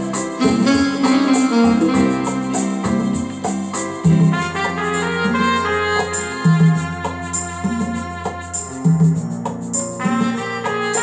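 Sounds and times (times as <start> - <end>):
electronic keyboard music: 0.0 - 11.0.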